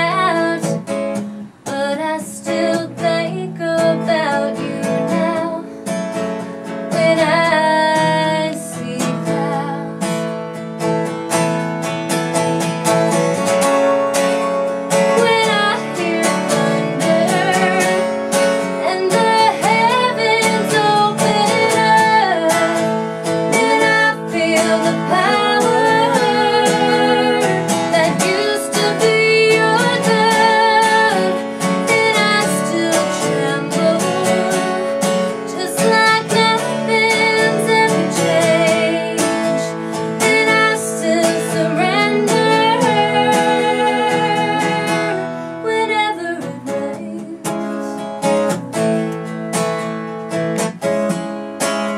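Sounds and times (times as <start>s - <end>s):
woman singing country song: 0.0s - 11.2s, 12.4s - 49.6s
strummed acoustic guitar: 0.0s - 51.9s.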